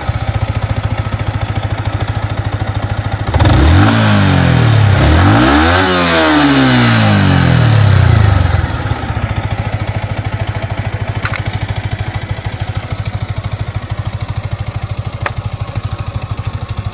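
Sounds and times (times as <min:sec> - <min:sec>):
motorcycle engine revving and idling: 0:00.0 - 0:16.9.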